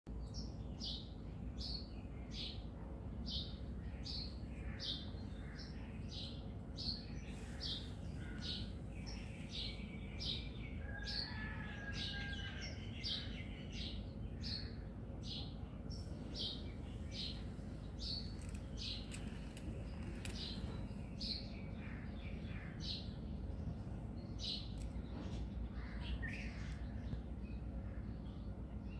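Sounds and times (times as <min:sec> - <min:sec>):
bird chirping: 0:00.1 - 0:28.9.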